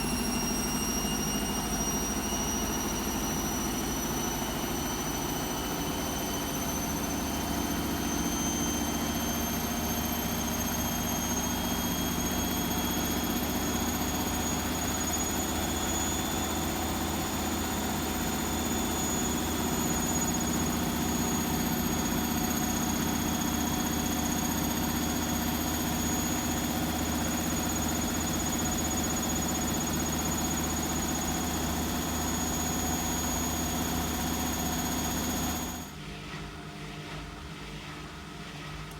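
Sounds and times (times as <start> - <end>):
washing machine spinning: 0.0 - 36.6.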